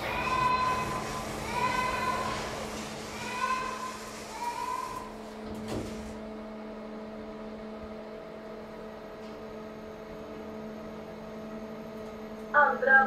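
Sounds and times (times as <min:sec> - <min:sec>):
elevator doors closing: 0:00.0 - 0:10.6
elevator hum: 0:00.0 - 0:13.0.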